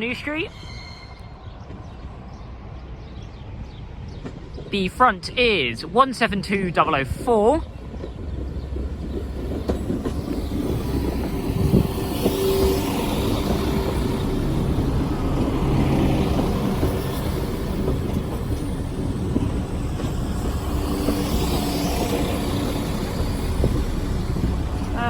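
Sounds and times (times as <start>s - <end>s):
diesel train engine rumble: 0.0s - 25.0s
train wheels on rails: 0.7s - 25.0s.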